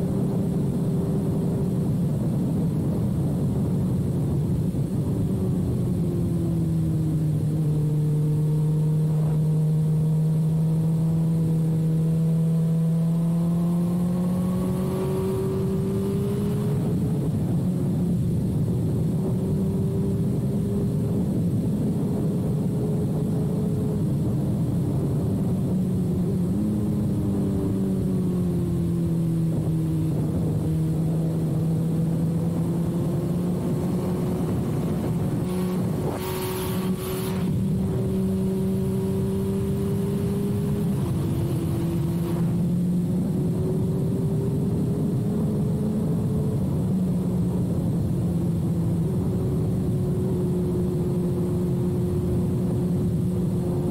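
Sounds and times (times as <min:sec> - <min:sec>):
motorcycle engine cruising: 0:00.0 - 0:53.9
wind and road noise: 0:00.0 - 0:53.9.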